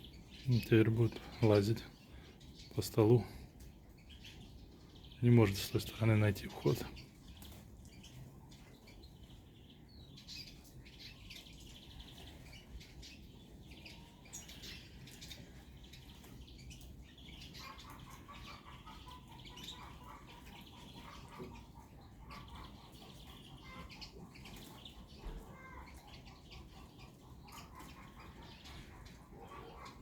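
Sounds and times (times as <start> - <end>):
faint finches twittering: 0.0 - 30.0.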